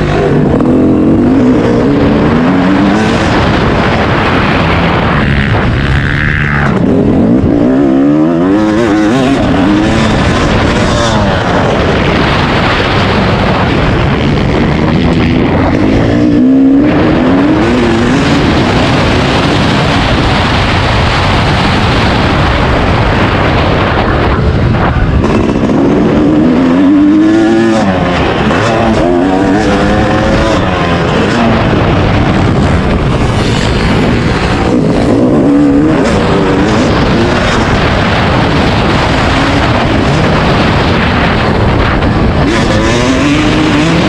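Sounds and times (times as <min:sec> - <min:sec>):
dirt bike engine revving: 0:00.0 - 0:44.0
wind on microphone: 0:00.0 - 0:44.0.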